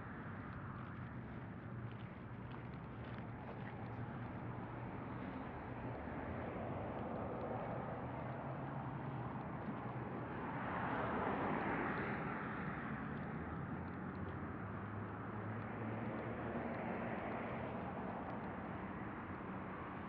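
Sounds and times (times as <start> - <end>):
cars driving by: 0.0 - 20.0.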